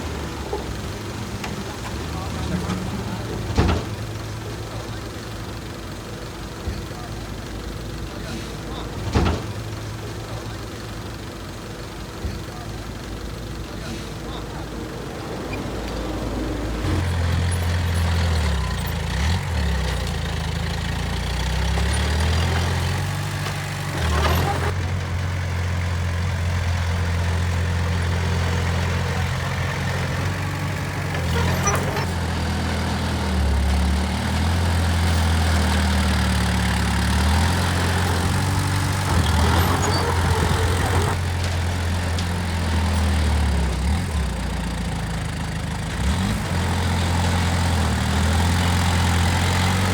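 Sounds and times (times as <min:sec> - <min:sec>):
heavy diesel engines running: 0:00.0 - 0:49.9.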